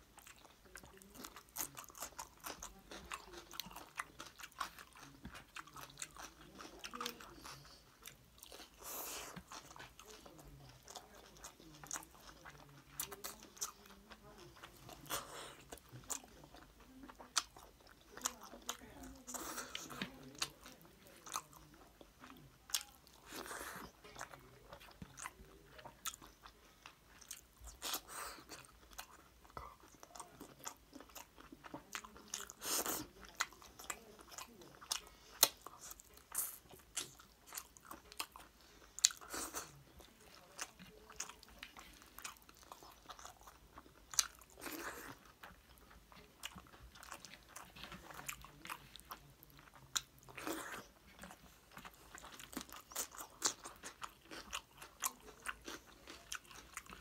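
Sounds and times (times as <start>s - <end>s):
close-miked chewing: 0.0s - 57.0s.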